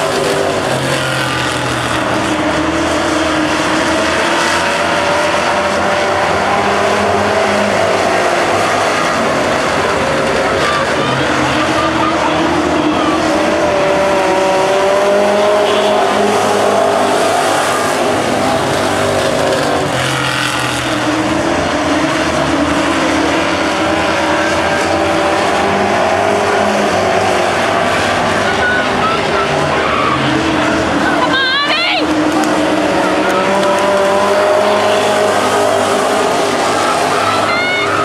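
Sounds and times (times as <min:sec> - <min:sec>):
race car engines: 0:00.0 - 0:38.0.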